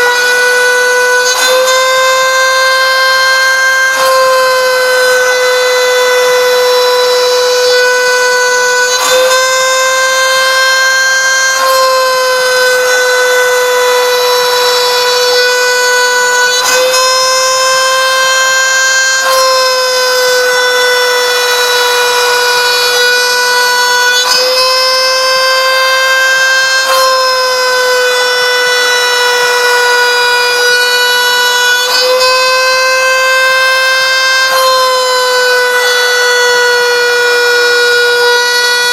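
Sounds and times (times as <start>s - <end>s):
cutting noise: 0.0s - 38.9s
router spindle whine: 0.0s - 38.9s.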